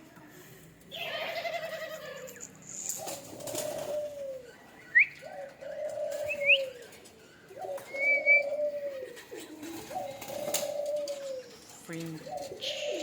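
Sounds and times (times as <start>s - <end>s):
birds chirping: 0.8s - 13.0s
dove cooing: 0.9s - 13.0s.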